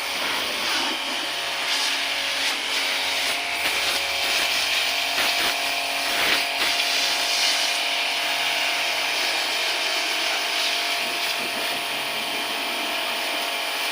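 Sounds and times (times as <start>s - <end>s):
machine hissing: 0.0s - 13.9s.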